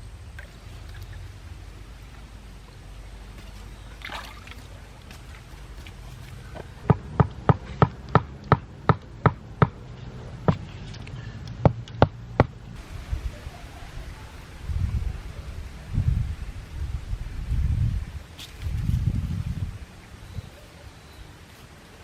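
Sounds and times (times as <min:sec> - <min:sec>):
steady low background noise: 0:00.0 - 0:22.0.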